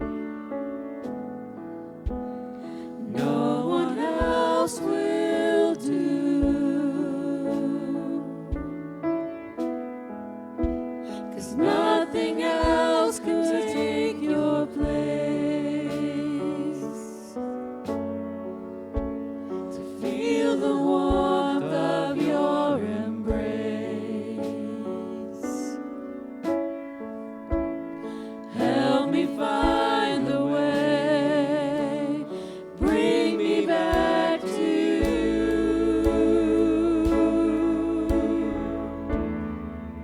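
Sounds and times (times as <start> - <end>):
keyboard accompaniment: 0.0 - 40.0
congregation singing: 2.0 - 9.8, 10.6 - 18.1, 19.0 - 26.6, 27.6 - 40.0.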